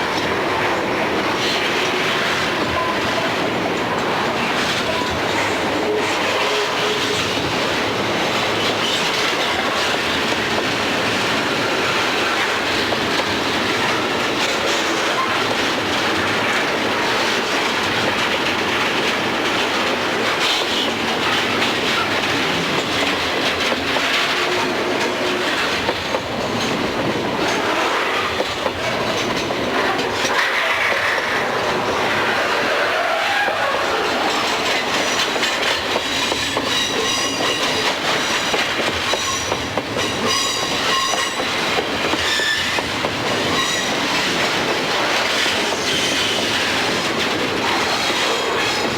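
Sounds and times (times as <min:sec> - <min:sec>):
train wheels clattering over rails: 0:00.0 - 0:48.9.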